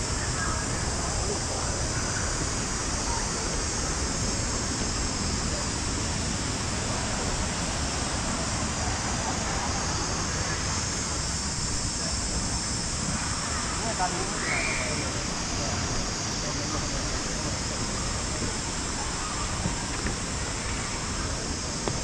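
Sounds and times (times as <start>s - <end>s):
steady rushing outdoor noise: 0.0s - 22.0s.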